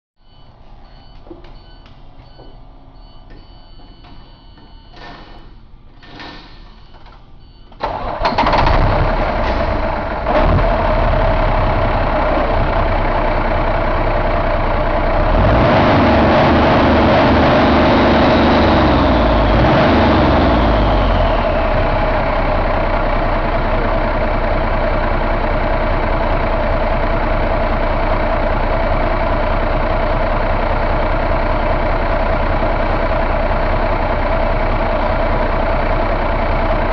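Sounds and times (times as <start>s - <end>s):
diesel engine starting and idling: 0.2s - 36.9s.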